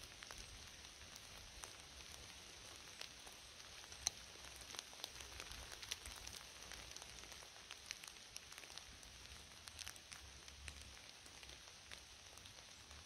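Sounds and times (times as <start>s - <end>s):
light rain hiss: 0.0s - 13.0s
raindrops ticking: 0.0s - 13.0s.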